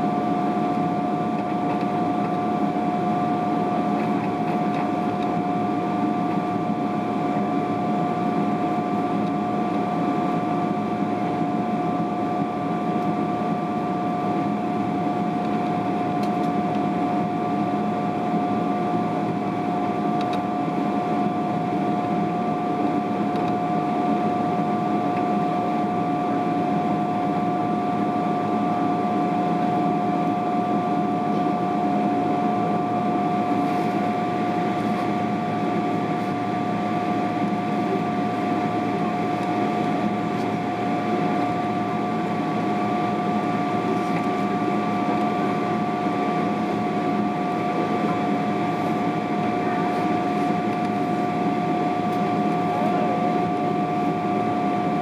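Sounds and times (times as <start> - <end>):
jet engine cabin drone: 0.0 - 55.0
steady whining tones: 0.0 - 55.0.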